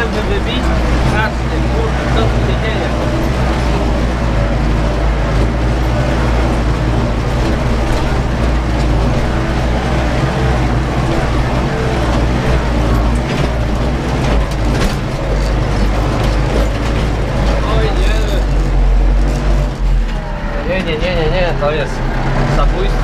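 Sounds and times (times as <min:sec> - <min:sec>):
sharp knocks and rattles: 0:00.0 - 0:20.1
tractor diesel engine under load: 0:00.0 - 0:23.0.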